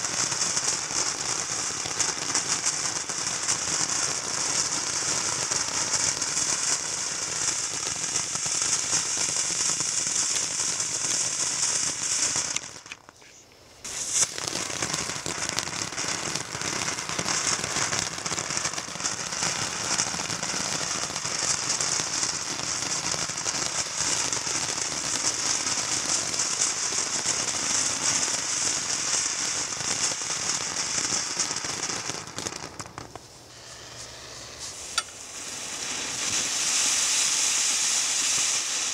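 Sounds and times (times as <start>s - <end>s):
firework fountain crackling hiss: 0.0s - 38.9s.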